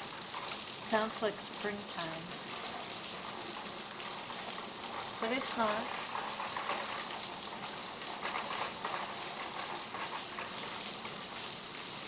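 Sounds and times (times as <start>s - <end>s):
heavy rain pouring: 0.0s - 12.0s
water dripping and splashing: 0.0s - 12.0s.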